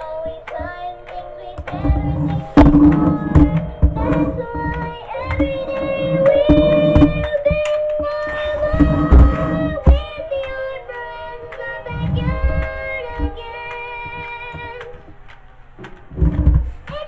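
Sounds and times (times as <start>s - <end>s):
toy playing children's song: 0.0s - 15.6s.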